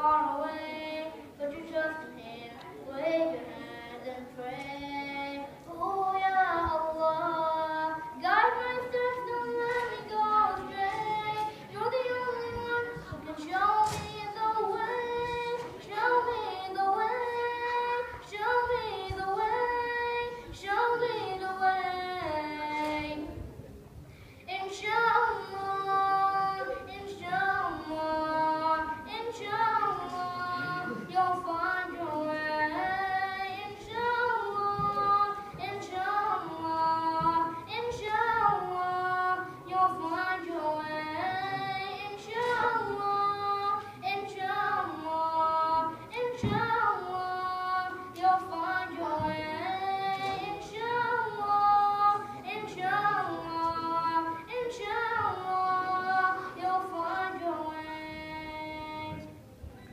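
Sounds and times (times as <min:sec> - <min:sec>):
boy singing unaccompanied: 0:00.0 - 0:23.6, 0:24.4 - 0:59.9.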